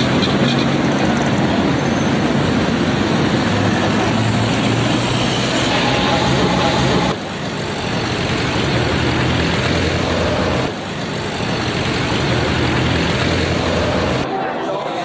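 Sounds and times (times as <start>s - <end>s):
road traffic engines: 0.0s - 14.5s.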